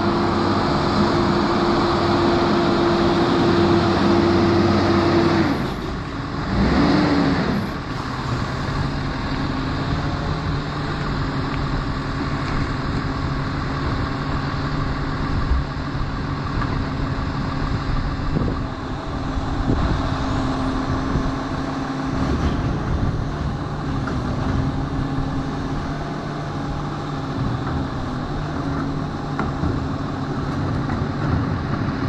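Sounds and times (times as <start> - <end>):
garbage truck engine humming: 0.0 - 32.0.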